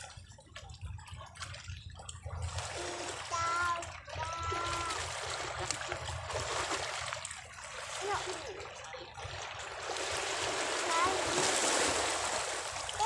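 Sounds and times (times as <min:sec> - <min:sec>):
waves lapping at shoreline: 0:02.3 - 0:13.0.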